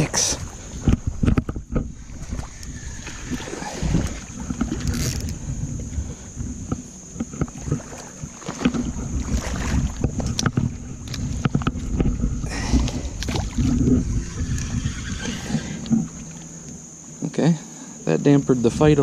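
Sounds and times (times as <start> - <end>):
wind on microphone: 0.0 - 16.5
water splashing and sloshing: 0.0 - 18.9.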